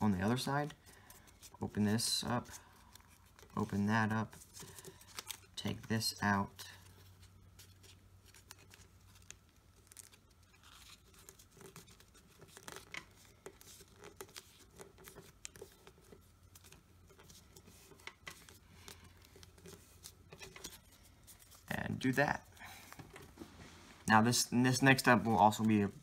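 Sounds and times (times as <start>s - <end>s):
paper rustling and crinkling: 0.0s - 5.9s, 6.6s - 24.0s
low steady hum: 0.0s - 26.0s.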